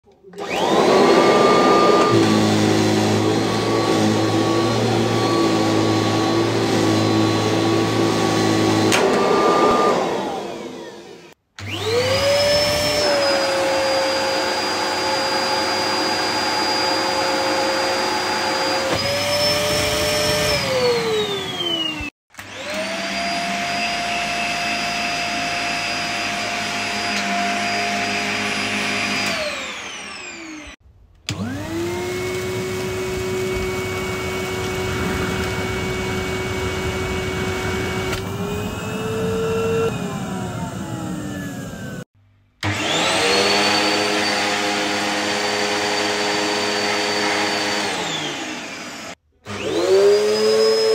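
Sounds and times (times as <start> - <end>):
vacuum cleaner motor whining: 0.1 - 50.9.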